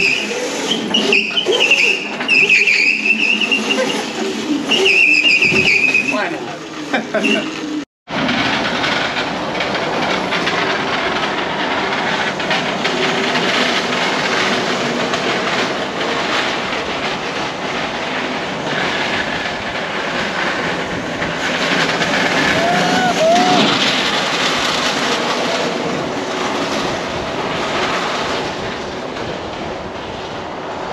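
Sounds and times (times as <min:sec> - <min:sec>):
small wheels rolling on asphalt: 0:00.0 - 0:30.9.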